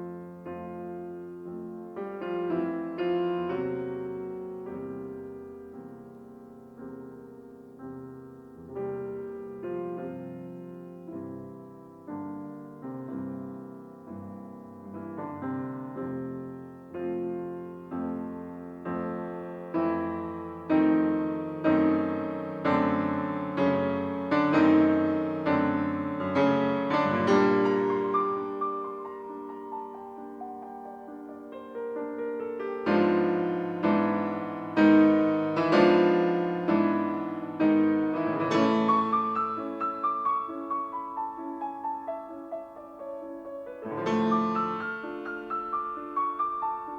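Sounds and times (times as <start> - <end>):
slow piano chords: 0.0 - 46.9.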